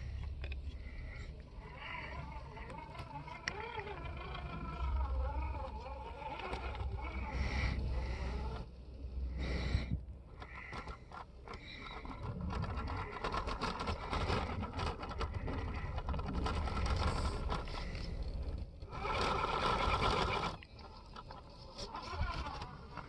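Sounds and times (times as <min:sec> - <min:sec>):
electric motor and gears whining: 0:00.0 - 0:23.0
tires scraping on stone: 0:00.8 - 0:23.0.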